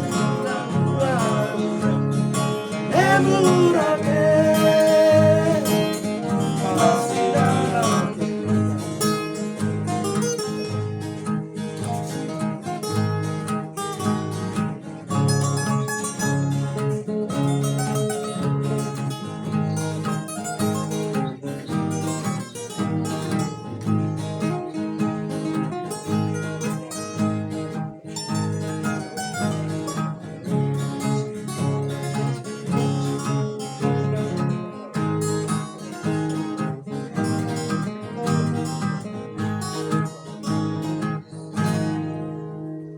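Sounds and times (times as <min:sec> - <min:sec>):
acoustic guitars strumming: 0:00.0 - 0:42.9
picked guitar melody: 0:00.0 - 0:42.9.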